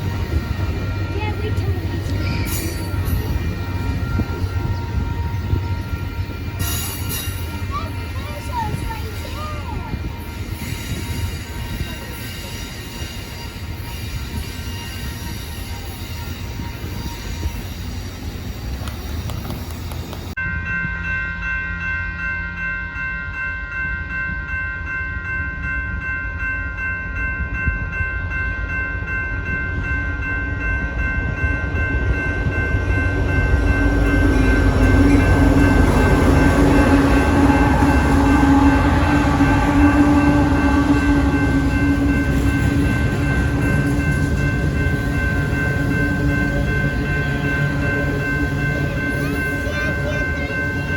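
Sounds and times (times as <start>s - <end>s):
railroad crossing bell ringing: 0.0s - 50.9s
train rumble: 0.0s - 50.9s.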